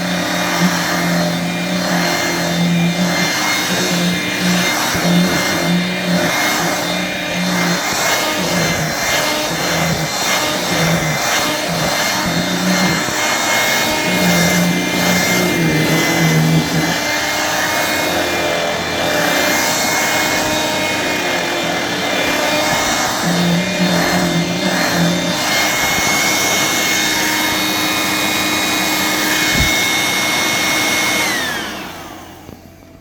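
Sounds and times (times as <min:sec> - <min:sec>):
hand vacuum running: 0:00.0 - 0:33.0.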